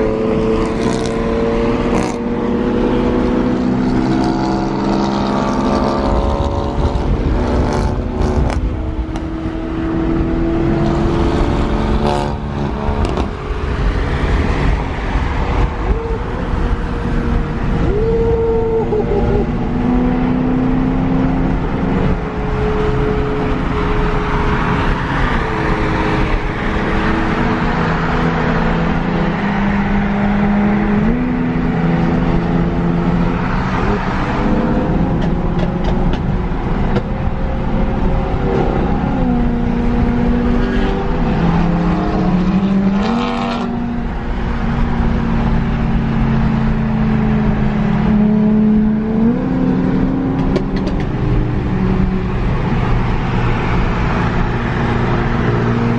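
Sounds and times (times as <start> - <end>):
car engine revving: 0.0 - 55.9
road and tyre noise: 0.0 - 55.9.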